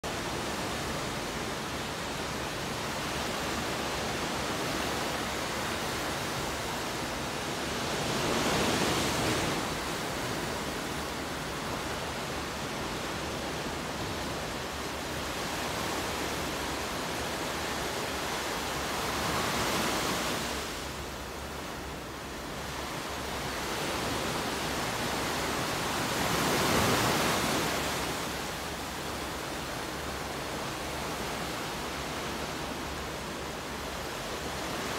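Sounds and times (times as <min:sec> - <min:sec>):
ocean waves breaking: 0:00.1 - 0:34.9.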